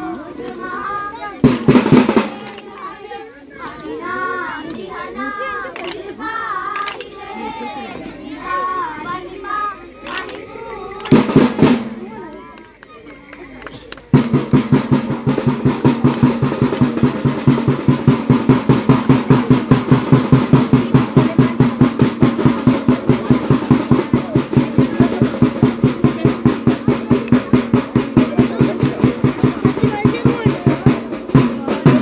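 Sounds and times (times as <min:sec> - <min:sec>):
drum beating fast rhythm: 0:00.0 - 0:12.2, 0:14.0 - 0:32.0.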